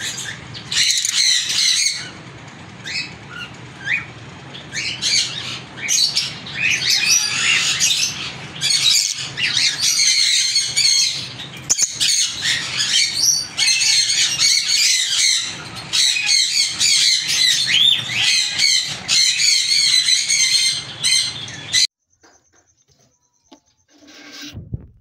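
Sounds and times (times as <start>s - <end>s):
cage birds chirping and squawking: 0.0s - 24.6s.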